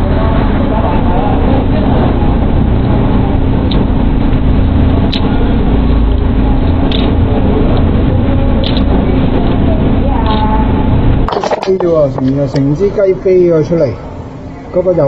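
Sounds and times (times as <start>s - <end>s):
steady loud hum: 0.0s - 15.0s.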